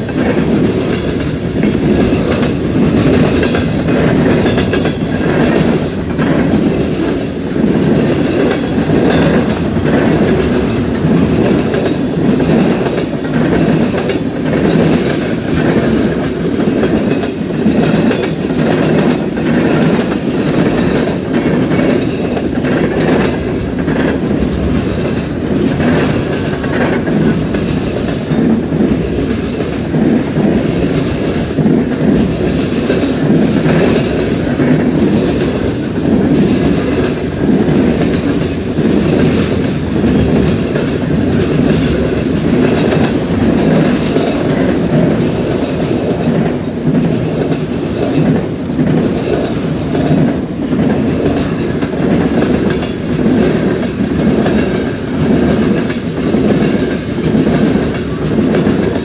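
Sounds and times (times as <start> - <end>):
train wheels rumbling on rails: 0.0 - 59.0
wheels clicking over track: 0.0 - 59.0.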